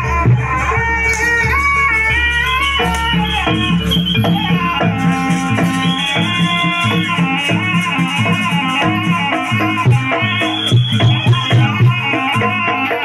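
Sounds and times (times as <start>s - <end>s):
low percussive beat: 0.0s - 13.0s.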